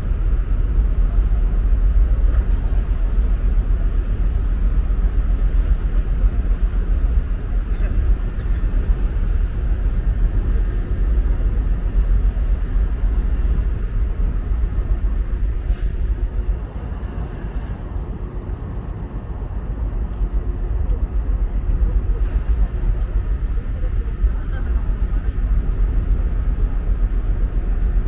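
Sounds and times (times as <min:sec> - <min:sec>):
ship deck low rumble: 0:00.0 - 0:28.0.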